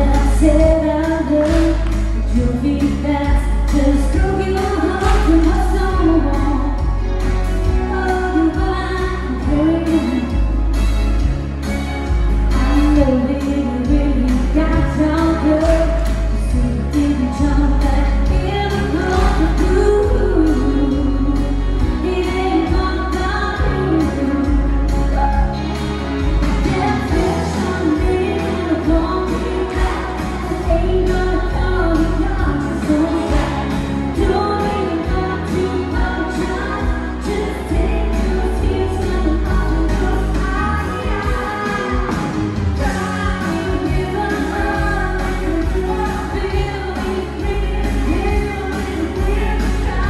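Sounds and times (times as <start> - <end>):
women singing: 0.0 - 10.5, 12.6 - 25.6, 26.4 - 50.0
acoustic guitars: 0.0 - 50.0
bass and drum beat: 0.0 - 50.0.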